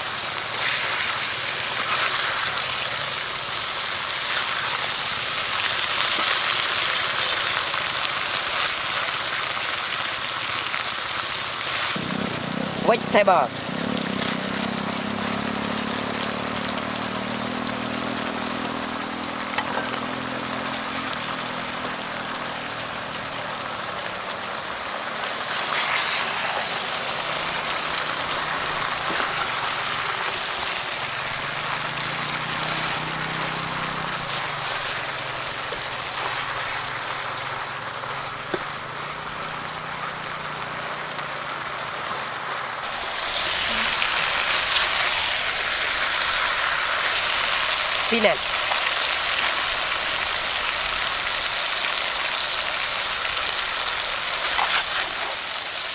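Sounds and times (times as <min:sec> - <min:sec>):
food sizzling in a wok: 0:00.0 - 0:55.9.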